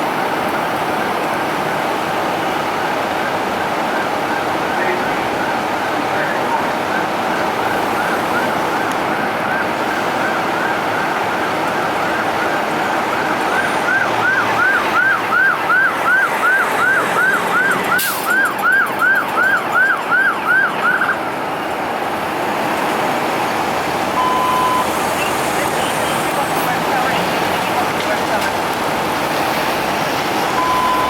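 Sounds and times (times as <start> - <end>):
road noise: 0.0 - 31.0
emergency siren yelping: 0.1 - 31.0.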